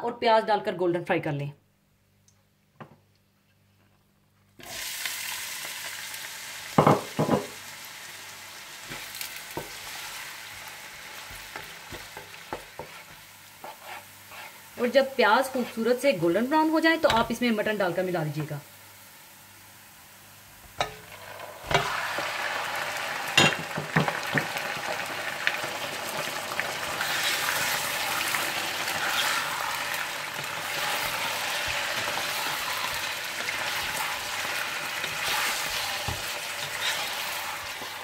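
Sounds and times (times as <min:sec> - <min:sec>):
meat sizzling in hot fat: 0:04.6 - 0:38.0.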